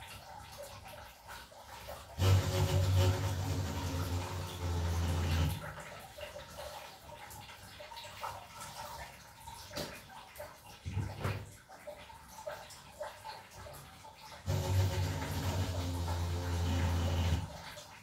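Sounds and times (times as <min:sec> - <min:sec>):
water dripping: 0:00.0 - 0:18.0
water rushing into a tray: 0:00.0 - 0:18.0.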